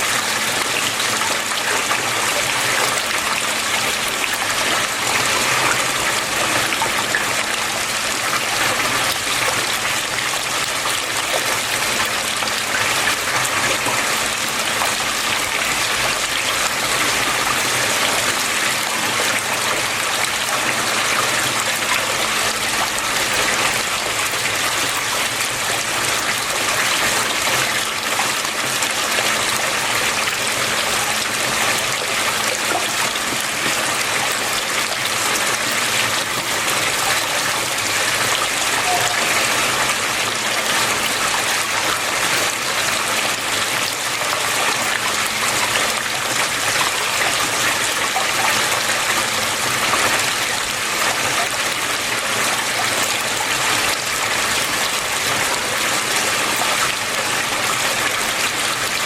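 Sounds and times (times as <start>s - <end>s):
water flowing and splashing: 0.0s - 59.0s.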